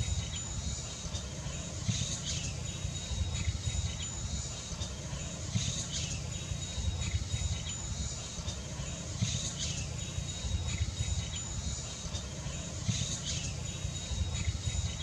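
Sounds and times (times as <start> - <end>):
high-pitched insect tone: 0.0 - 15.0
insects chirping: 0.0 - 15.0.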